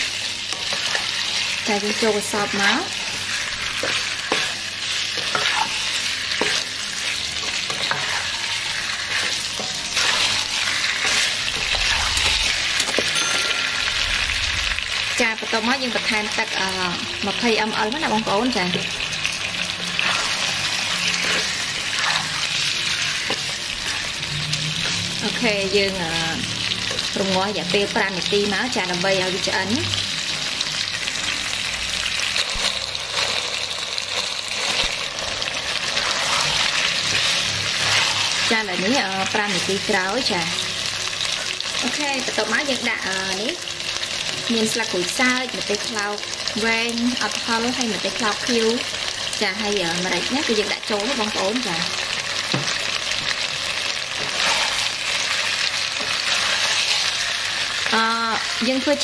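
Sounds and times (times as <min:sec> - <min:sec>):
fish sizzling in a wok: 0:00.0 - 0:59.0.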